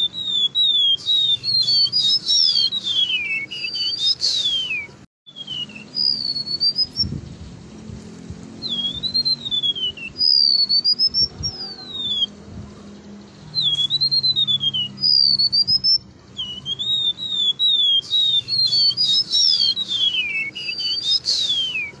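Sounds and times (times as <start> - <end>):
bird whistled song: 0.0 - 7.3, 8.6 - 12.4, 13.4 - 22.0.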